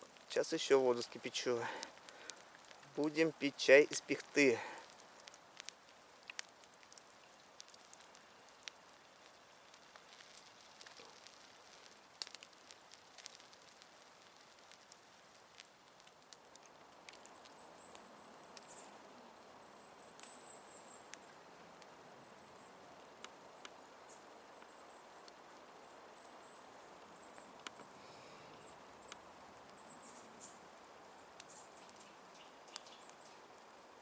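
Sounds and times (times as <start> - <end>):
campfire crackling: 0.0 - 34.0
low steady hiss: 0.0 - 34.0.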